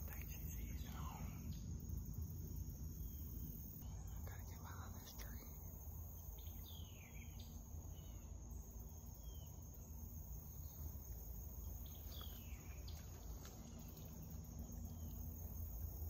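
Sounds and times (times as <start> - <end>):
insects droning: 0.0 - 16.0
low rumble: 0.0 - 16.0.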